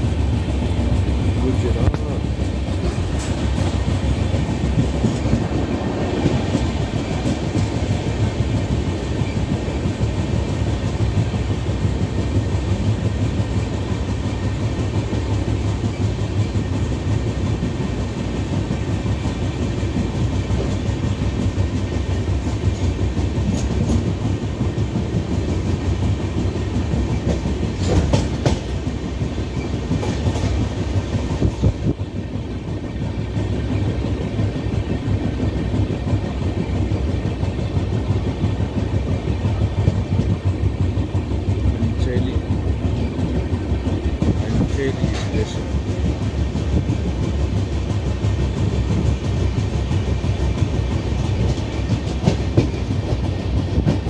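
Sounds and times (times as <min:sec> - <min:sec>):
clickety-clack of rail joints: 0:00.0 - 0:54.0
train wheels rumbling on rails: 0:00.0 - 0:54.0.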